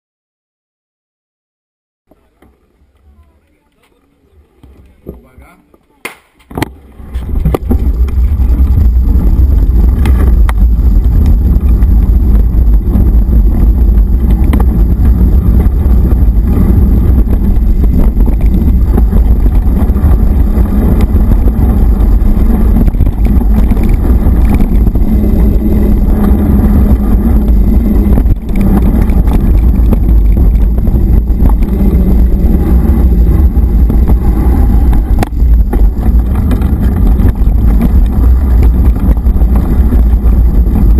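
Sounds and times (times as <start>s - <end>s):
rough-ground vibration rumble: 6.3s - 40.9s
wind buffeting microphone: 6.5s - 40.9s.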